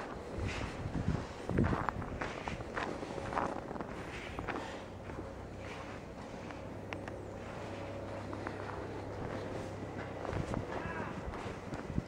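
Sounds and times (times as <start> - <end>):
footsteps crunching in snow: 0.0 - 12.0
steady low rumble: 0.0 - 12.0.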